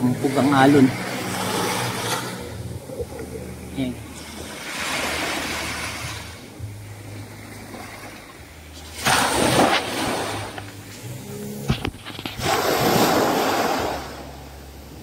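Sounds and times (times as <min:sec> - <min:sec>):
low steady hum: 0:00.0 - 0:15.0
sea waves breaking: 0:00.0 - 0:15.0.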